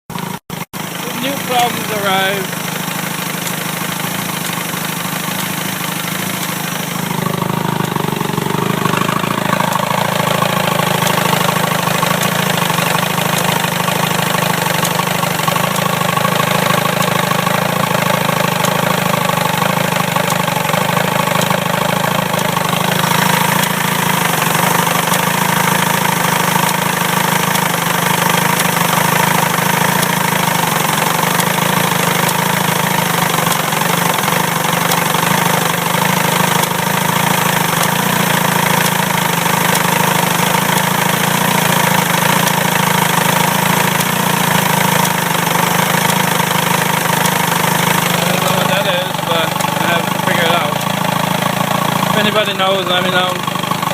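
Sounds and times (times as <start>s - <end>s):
outboard motor running: 0.1s - 53.9s
clicking noise: 3.4s - 52.5s.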